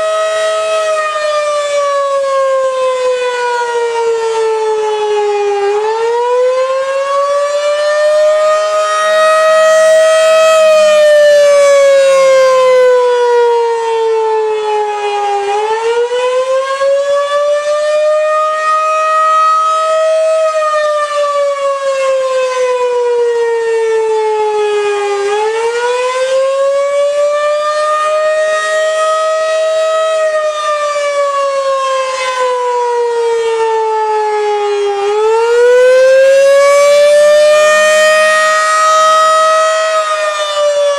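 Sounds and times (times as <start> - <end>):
warning siren wailing: 0.0 - 40.9.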